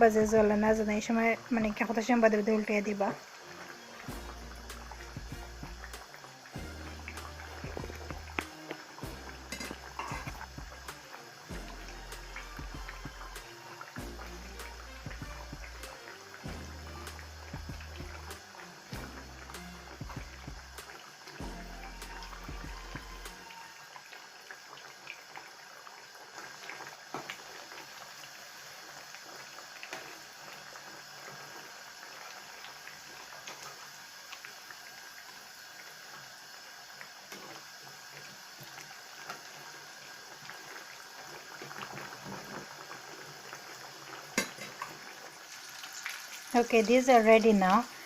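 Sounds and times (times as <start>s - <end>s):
deep-frying sizzle with pops: 0.0s - 48.0s.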